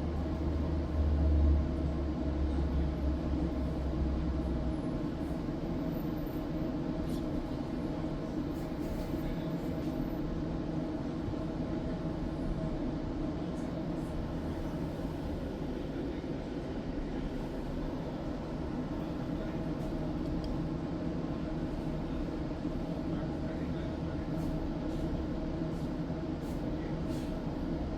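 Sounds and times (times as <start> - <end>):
electric tram running on track: 0.0 - 27.9.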